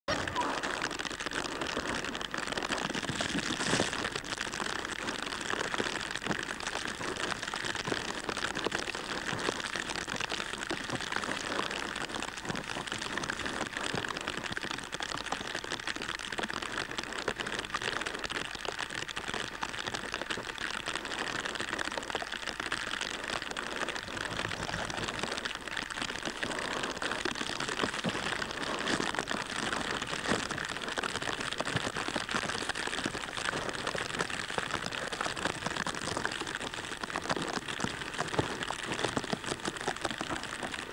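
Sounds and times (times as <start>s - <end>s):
steady rain falling: 0.1s - 40.9s.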